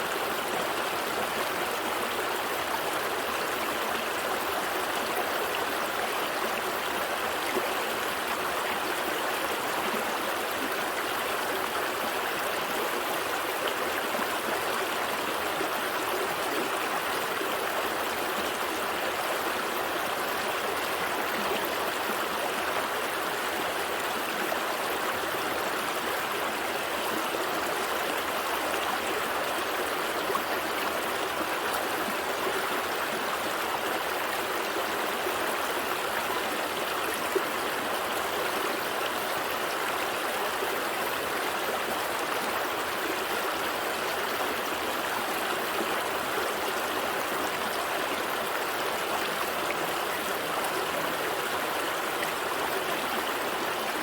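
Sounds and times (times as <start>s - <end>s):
stream burbling over stones: 0.0s - 54.0s.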